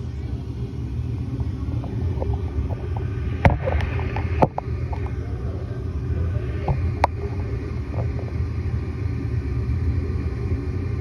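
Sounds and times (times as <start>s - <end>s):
furnace motor rumble: 0.0s - 11.0s.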